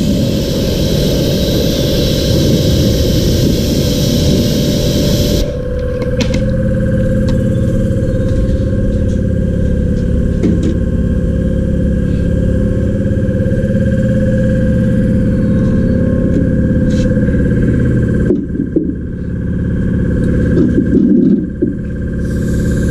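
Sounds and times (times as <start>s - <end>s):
machine humming: 0.0s - 22.9s.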